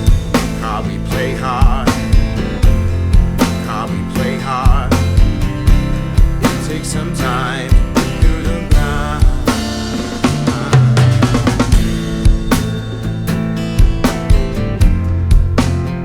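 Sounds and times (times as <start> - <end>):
bass guitar: 0.0 - 16.0
electric guitar: 0.0 - 16.0
rock drum kit playing: 0.0 - 16.0.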